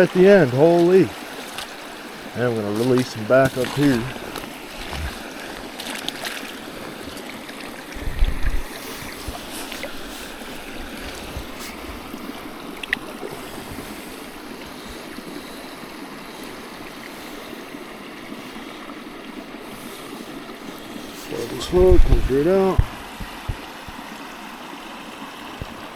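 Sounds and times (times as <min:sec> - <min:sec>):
stream running over rocks: 0:00.0 - 0:25.9.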